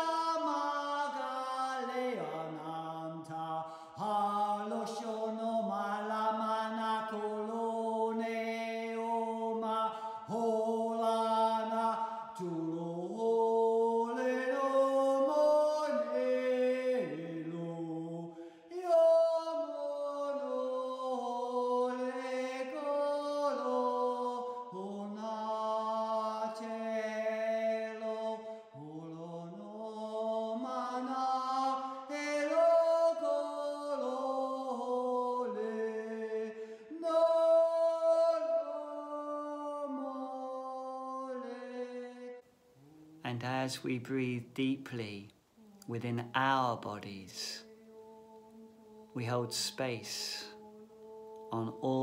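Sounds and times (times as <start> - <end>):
sung chant in held notes: 0.0 - 52.0.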